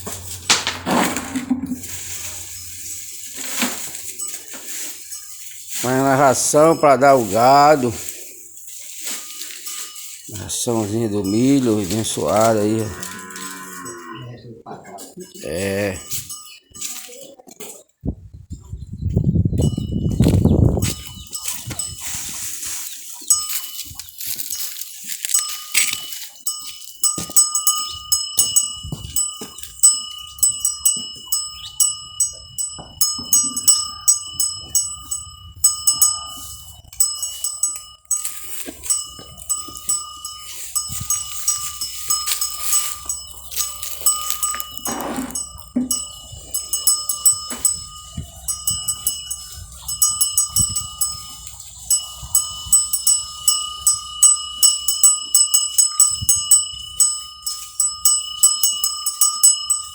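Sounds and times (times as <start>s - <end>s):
metal animal bell clinking: 1.8s - 14.3s, 14.9s - 17.8s, 19.5s - 59.9s.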